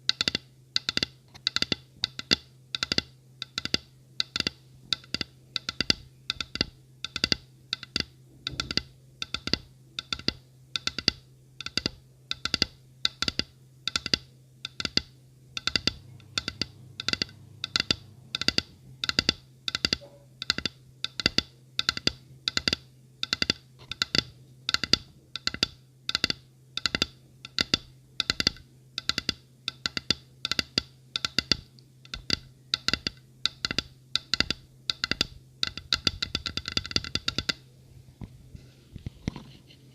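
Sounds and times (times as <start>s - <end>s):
faint low hum: 0.0s - 39.9s
tapping on hard object: 0.1s - 37.6s.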